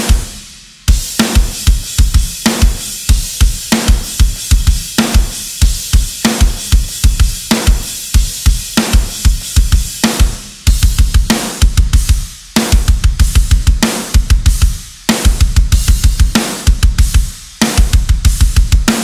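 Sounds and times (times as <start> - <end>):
cymbals: 0.0 - 19.0
heavy snare backbeat: 0.0 - 19.0
kick drum clusters: 0.0 - 19.0.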